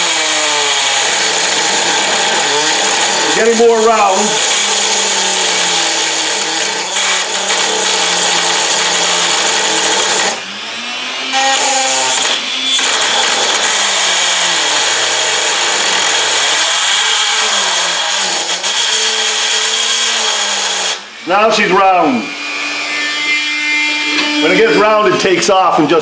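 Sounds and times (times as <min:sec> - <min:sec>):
rotary tool grinding metal: 0:00.0 - 0:10.4, 0:11.0 - 0:25.8.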